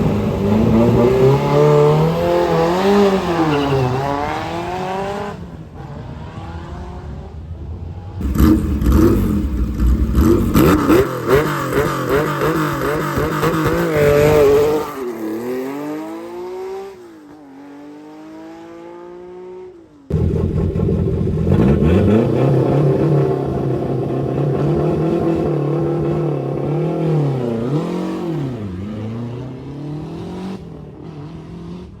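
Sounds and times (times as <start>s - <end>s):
rally car engine revving: 0.0s - 7.3s, 8.0s - 16.9s, 20.1s - 32.0s
rally car at full revs: 0.0s - 32.0s.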